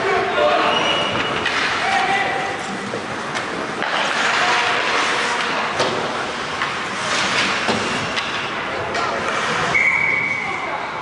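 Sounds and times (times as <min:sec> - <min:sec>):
hockey sticks and puck clacking: 0:00.0 - 0:10.6
skates scraping ice: 0:00.0 - 0:10.8
indoor hall noise: 0:00.0 - 0:11.0.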